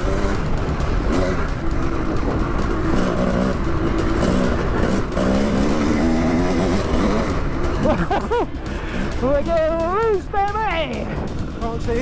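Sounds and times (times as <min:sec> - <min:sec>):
dirt bike engine revving: 0:00.0 - 0:10.3
wind rumble: 0:00.0 - 0:12.0.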